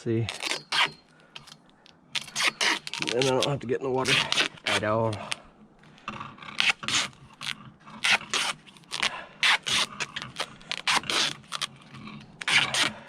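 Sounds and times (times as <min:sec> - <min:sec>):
scraping and rasping handling noises: 0:00.0 - 0:13.0.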